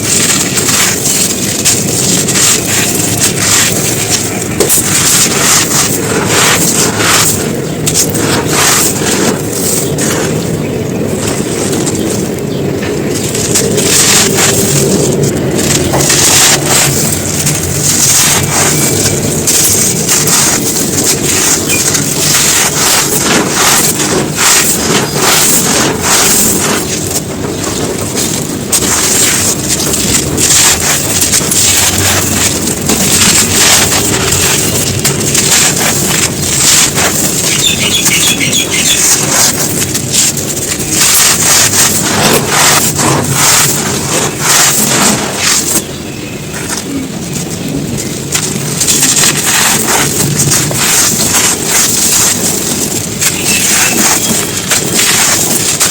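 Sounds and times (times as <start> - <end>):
crunching of brittle dry chunks: 0.0 - 55.9.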